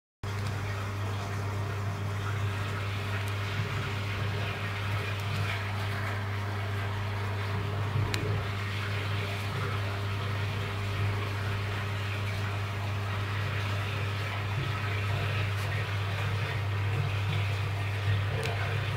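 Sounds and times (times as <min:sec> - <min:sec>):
aquarium pump humming: 0:00.2 - 0:18.9.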